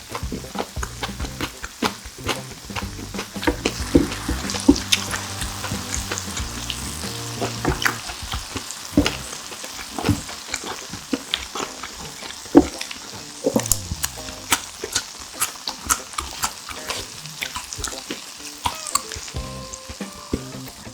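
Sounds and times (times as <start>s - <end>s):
chewing with clicks and smacks: 0.0s - 20.9s.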